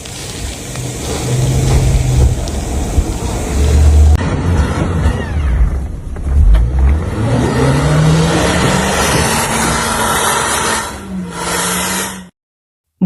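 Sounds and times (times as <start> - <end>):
car engine revving: 0.1 - 12.3.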